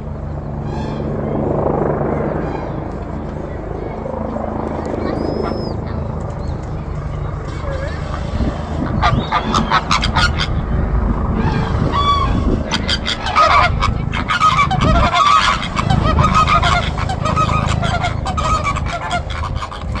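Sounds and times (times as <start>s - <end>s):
flamingos honking: 0.0s - 20.0s
steady low rumble: 0.0s - 20.0s.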